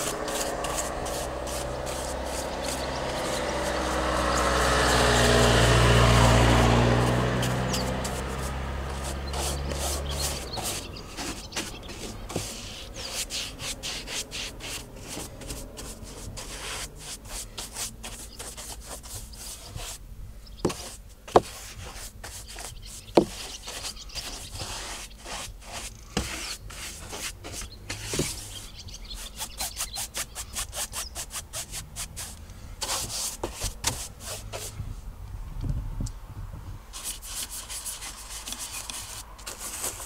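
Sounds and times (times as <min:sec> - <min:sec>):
brush bristles rubbing plastic: 0:00.0 - 0:20.0, 0:20.6 - 0:34.8, 0:36.9 - 0:40.0.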